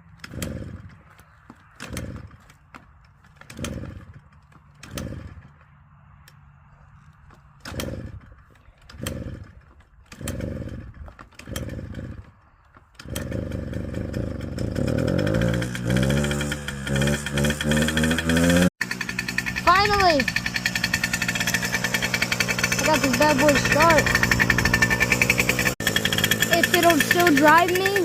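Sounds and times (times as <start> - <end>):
dirt bike engine cranking and running: 0.0 - 28.0.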